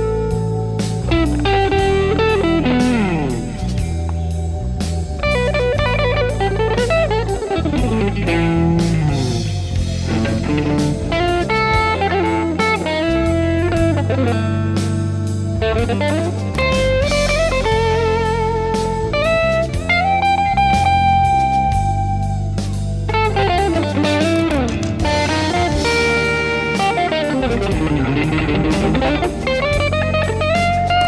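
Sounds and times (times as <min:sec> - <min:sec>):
blues backing bass and drums: 0:00.0 - 0:31.0
electric guitar solo: 0:00.0 - 0:31.0.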